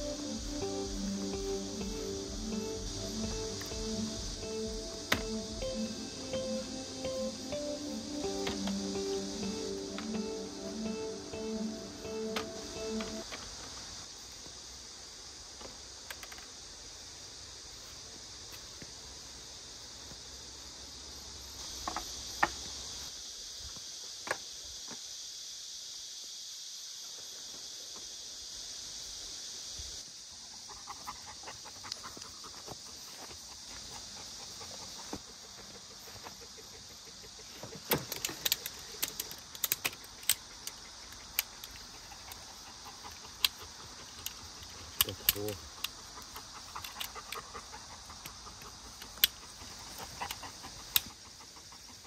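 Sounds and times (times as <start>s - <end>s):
insect chorus drone: 0.0s - 52.0s.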